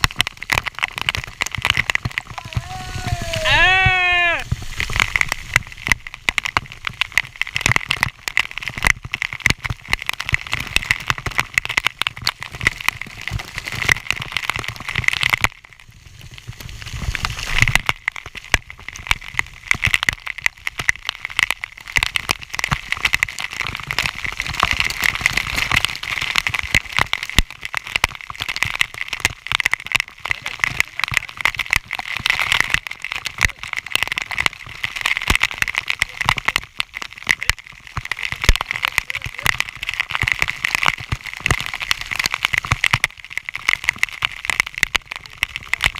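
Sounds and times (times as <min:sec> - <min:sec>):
waterfall pouring and splashing: 0:00.0 - 0:45.9.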